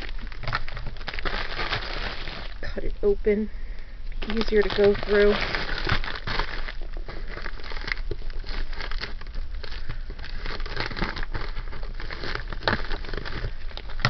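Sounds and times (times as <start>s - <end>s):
plastic bag crinkling: 0.0s - 3.2s, 4.2s - 14.0s.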